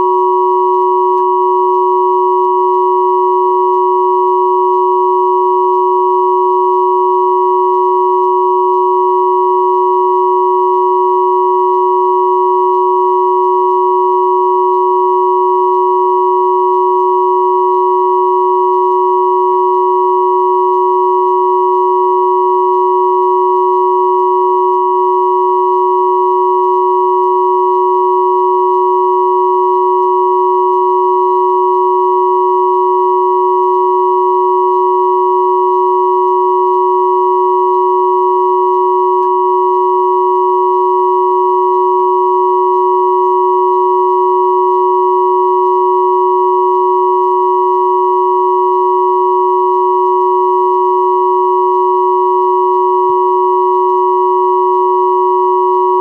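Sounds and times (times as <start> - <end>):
steady sine tones: 0.0 - 56.0.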